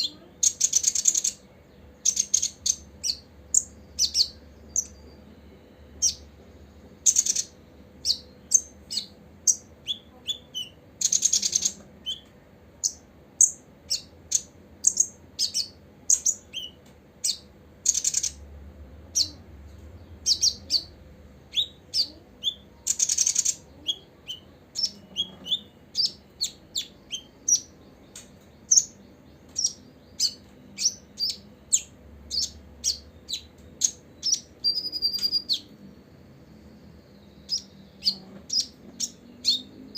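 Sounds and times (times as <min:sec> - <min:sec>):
bird chirping: 0:00.0 - 0:39.9
buzzy bird trill: 0:00.0 - 0:39.9.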